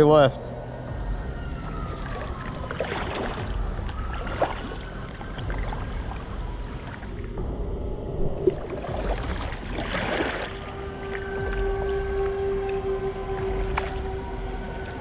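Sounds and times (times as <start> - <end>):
sharp splashes: 1.9 - 7.4, 8.4 - 15.0
river water running and splashing: 2.0 - 7.6, 8.4 - 15.0.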